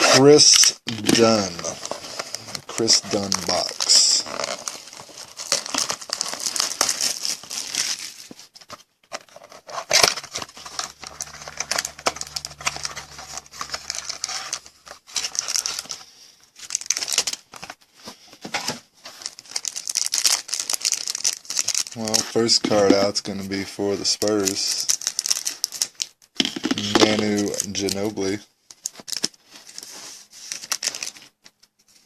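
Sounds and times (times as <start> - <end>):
plastic wrapping crinkling and tearing: 0.4 - 32.0.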